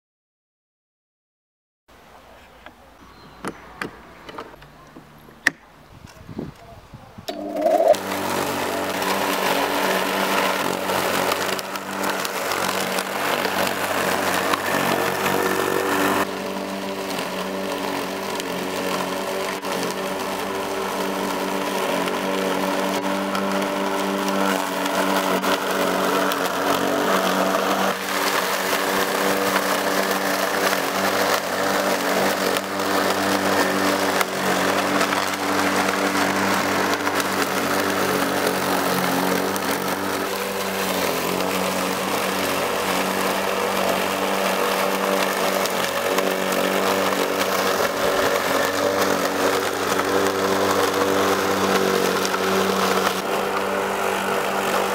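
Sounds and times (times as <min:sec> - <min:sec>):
electric lawn mower running: 0:07.3 - 0:54.9.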